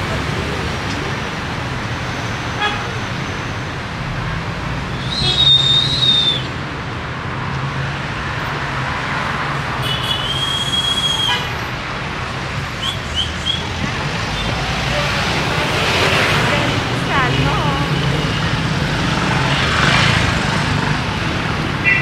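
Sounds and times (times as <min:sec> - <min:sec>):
street traffic engines: 0:00.0 - 0:22.0.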